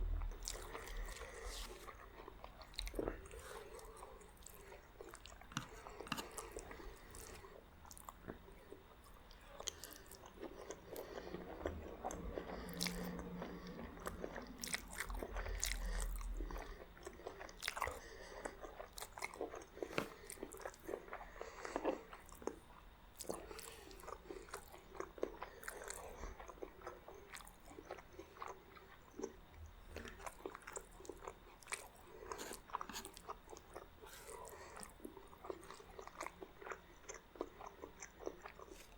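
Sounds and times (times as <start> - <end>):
chewing and biting: 0.4 - 38.9.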